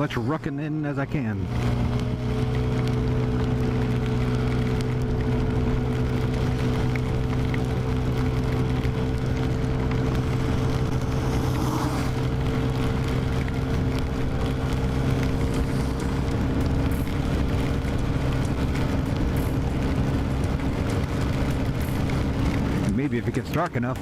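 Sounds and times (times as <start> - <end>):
wind and wet road hiss: 1.4 - 23.8
scooter engine running: 1.5 - 23.1.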